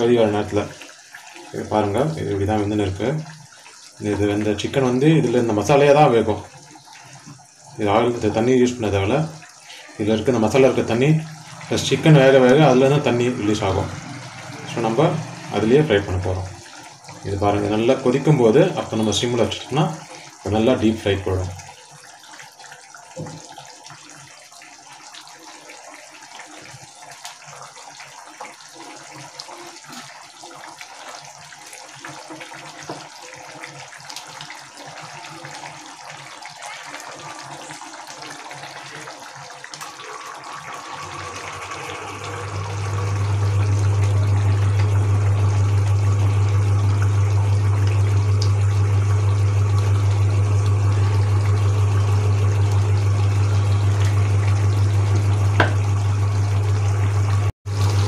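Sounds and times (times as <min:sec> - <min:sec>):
gravy bubbling in a pan: 0:00.0 - 0:58.0.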